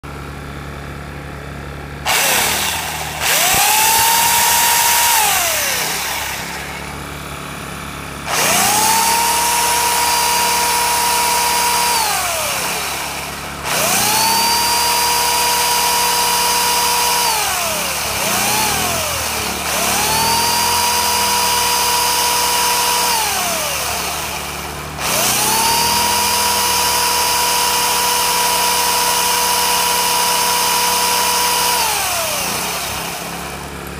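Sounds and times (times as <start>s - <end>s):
generator running steadily: 0.0s - 33.9s
electric chainsaw motor whine: 1.7s - 33.9s.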